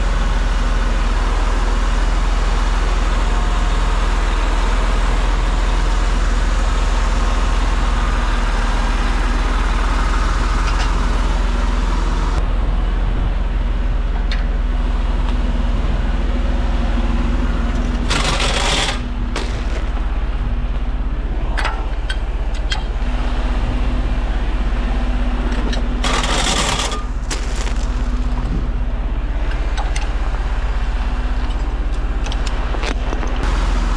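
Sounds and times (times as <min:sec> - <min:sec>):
truck engine humming: 0:00.0 - 0:33.9.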